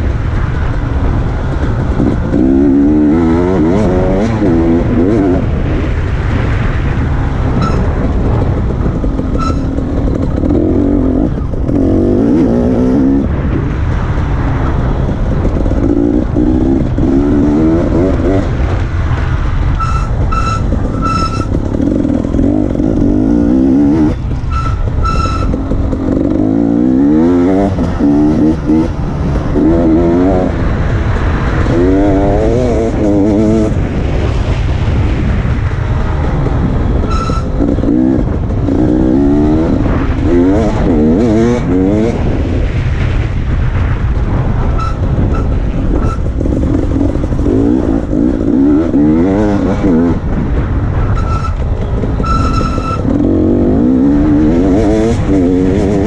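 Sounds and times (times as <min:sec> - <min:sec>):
dirt bike engine revving: 0:00.0 - 0:34.6, 0:36.1 - 0:42.4, 0:44.8 - 0:56.0
low rumble: 0:00.0 - 0:56.0.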